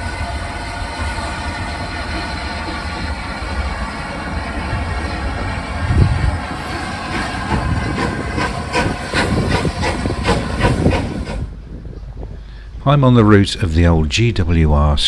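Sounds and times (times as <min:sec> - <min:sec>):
steam hissing: 0:00.0 - 0:12.8
steam locomotive exhaust beats: 0:00.0 - 0:15.0.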